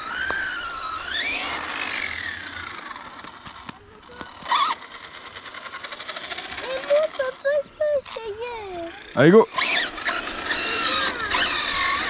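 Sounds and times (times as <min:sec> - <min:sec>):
electric motor whine: 0:00.0 - 0:07.4, 0:08.0 - 0:12.0.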